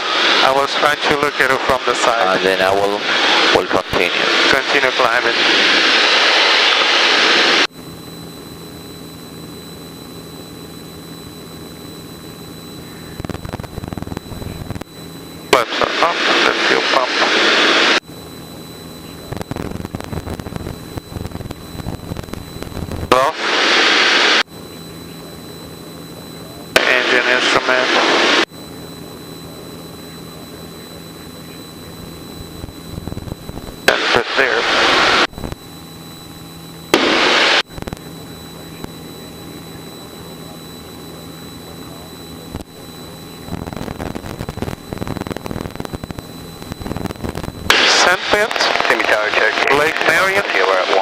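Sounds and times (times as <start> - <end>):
faint high whine: 0.0 - 51.0
propeller airplane engine drone: 0.0 - 51.0.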